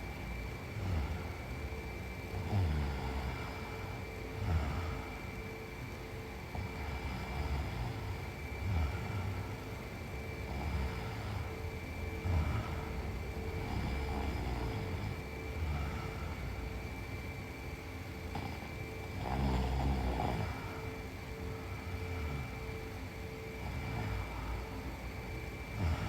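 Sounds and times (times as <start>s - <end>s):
woman snoring: 0.7s - 5.4s, 6.4s - 17.1s, 18.2s - 26.0s.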